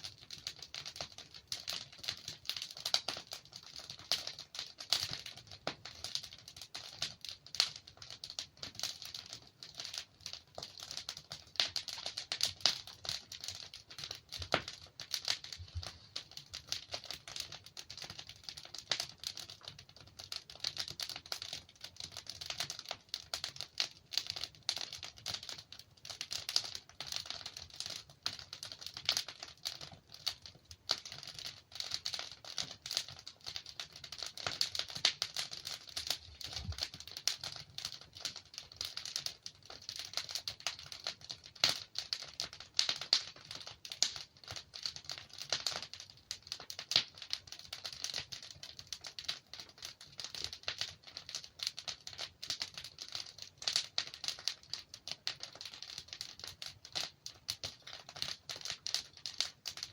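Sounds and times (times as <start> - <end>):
logs crackling in fireplace: 0.0 - 59.9.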